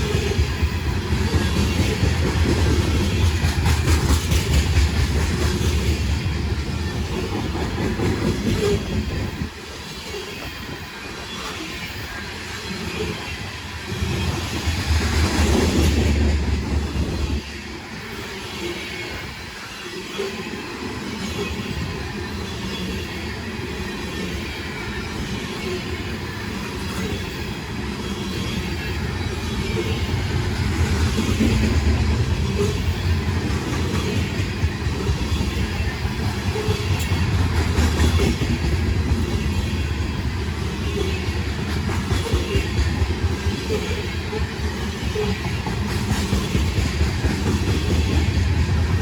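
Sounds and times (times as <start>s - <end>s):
train wheels clattering on rails: 0.0s - 49.0s.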